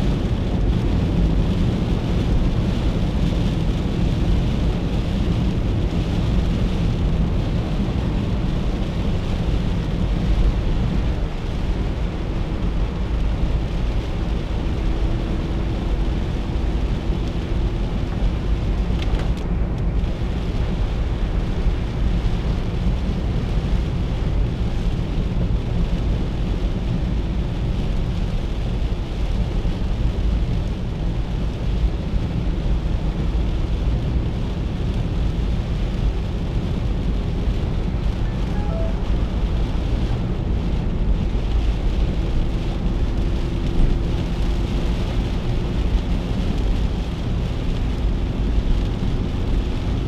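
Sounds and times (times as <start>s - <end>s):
car engine and tyre rumble: 0.0s - 50.0s
rain hissing on car: 0.0s - 50.0s.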